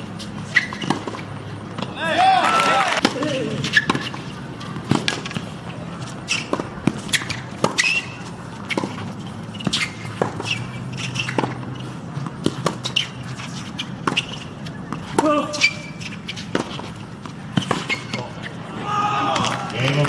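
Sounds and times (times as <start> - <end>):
shoe squeaks on court: 0.0 - 1.9, 3.4 - 18.6
racket striking tennis ball: 0.0 - 2.0, 3.0 - 18.4
tennis ball bouncing: 0.0 - 18.4.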